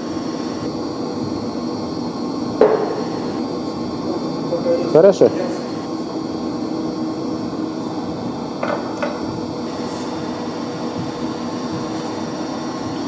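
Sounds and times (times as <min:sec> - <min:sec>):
circulation pumps humming: 0:00.0 - 0:13.0.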